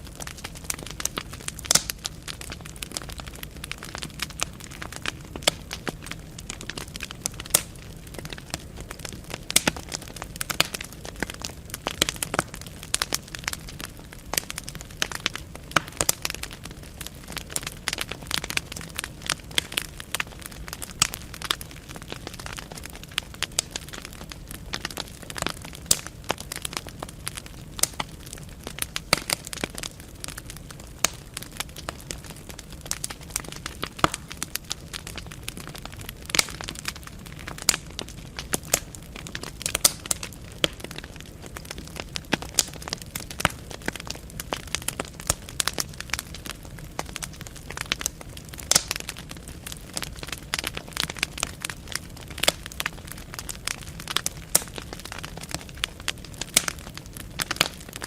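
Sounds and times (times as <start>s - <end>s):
burning logs popping and crackling: 0.0s - 58.0s
low rumble of flames: 0.0s - 58.0s.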